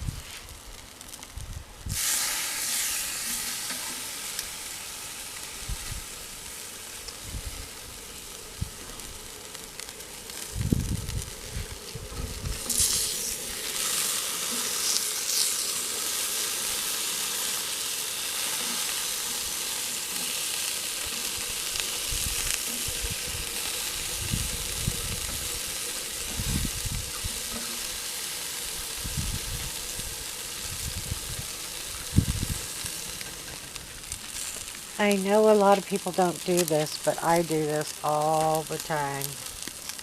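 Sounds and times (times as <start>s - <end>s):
meat sizzling on a grill: 0.0s - 40.0s.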